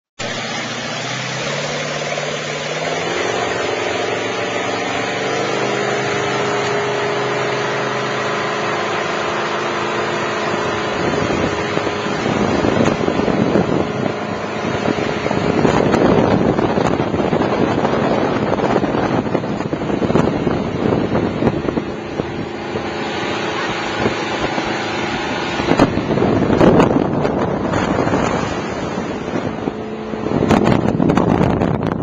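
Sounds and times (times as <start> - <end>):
motorboat engine running: 0.2 - 32.0
wind buffeting microphone: 0.2 - 32.0.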